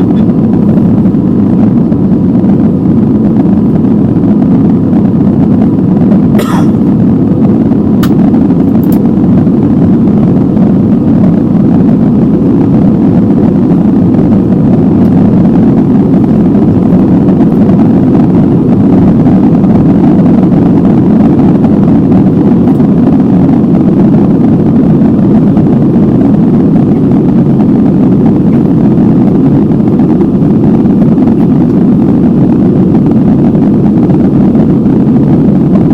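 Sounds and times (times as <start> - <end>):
jet engine roar in cabin: 0.0 - 35.9.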